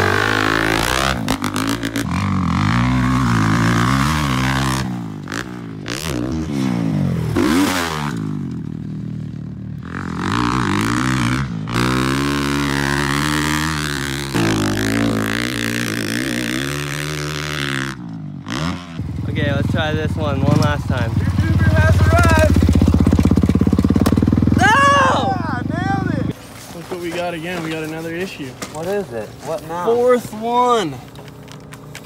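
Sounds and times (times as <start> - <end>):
dirt bike engine revving: 0.0 - 26.4.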